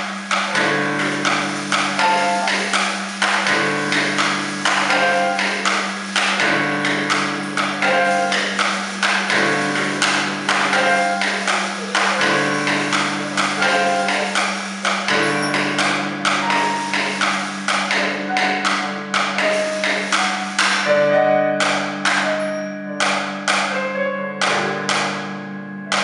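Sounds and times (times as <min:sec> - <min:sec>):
rapid percussive taps: 0:00.0 - 0:23.8, 0:24.4 - 0:25.3
sustained low notes: 0:00.3 - 0:23.1.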